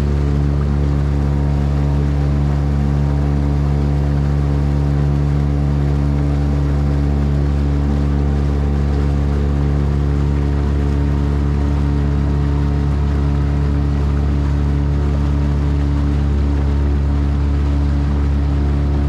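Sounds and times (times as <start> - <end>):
boat engine running steadily: 0.0 - 19.0.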